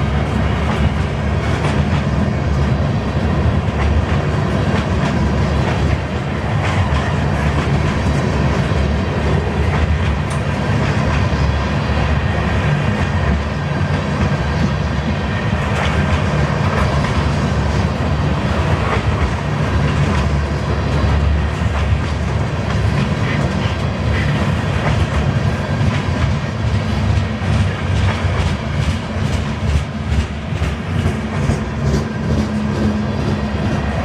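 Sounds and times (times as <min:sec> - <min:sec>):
freight train cars rolling past: 0:00.0 - 0:34.0.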